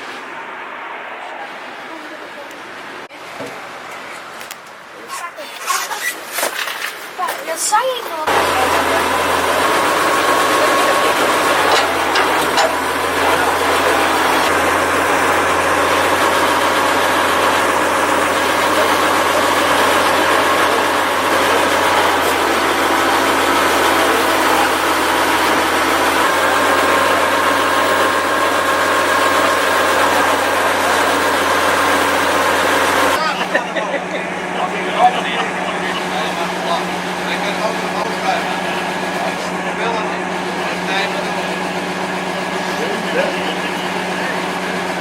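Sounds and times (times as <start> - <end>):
heavy truck engine running: 7.8 - 45.0.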